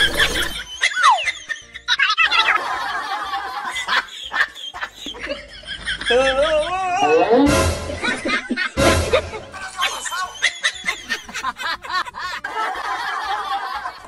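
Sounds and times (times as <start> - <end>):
high-pitched snickering laughter: 0.0 - 8.8, 9.6 - 13.9.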